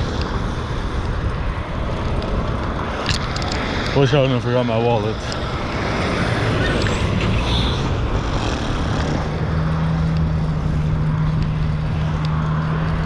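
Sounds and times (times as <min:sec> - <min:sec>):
low engine hum: 0:00.0 - 0:13.0
street traffic: 0:00.0 - 0:13.0
wind rumble on microphone: 0:00.0 - 0:13.0.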